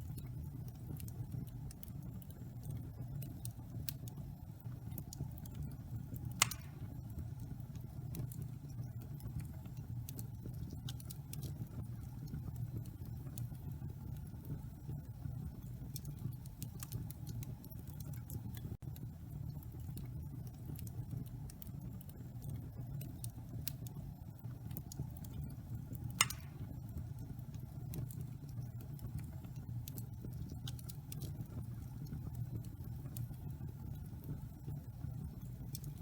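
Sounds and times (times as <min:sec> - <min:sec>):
fire pops: 0:00.0 - 0:34.7, 0:35.3 - 0:36.0
wood fire crackling: 0:00.0 - 0:36.0.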